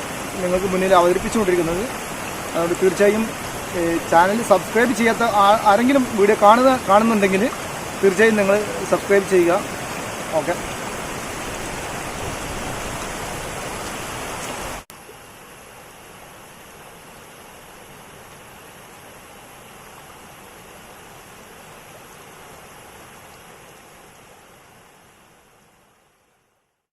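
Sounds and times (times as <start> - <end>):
waterfall rushing: 0.0 - 25.4.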